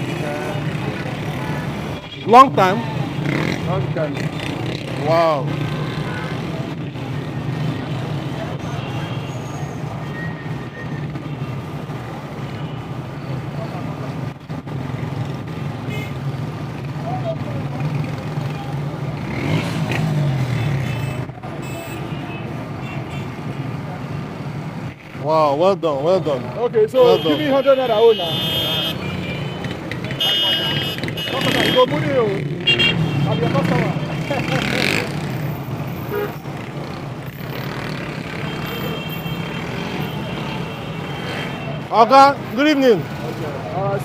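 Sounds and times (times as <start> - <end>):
street noise: 0.0 - 44.0
vehicles passing: 0.0 - 44.0.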